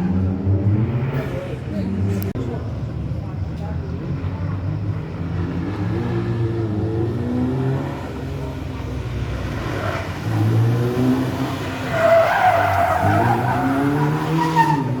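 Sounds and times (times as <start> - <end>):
tyres skidding and squealing: 0.0 - 2.4, 3.3 - 15.0
rally car engine revving: 0.0 - 2.6, 3.9 - 15.0.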